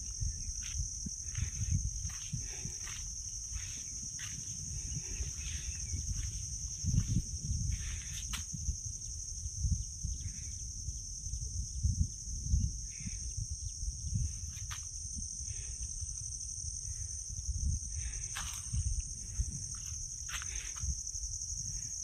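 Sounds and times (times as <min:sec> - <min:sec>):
high-pitched insect chorus: 0:00.0 - 0:22.0
wind rumble on microphone: 0:00.0 - 0:22.0.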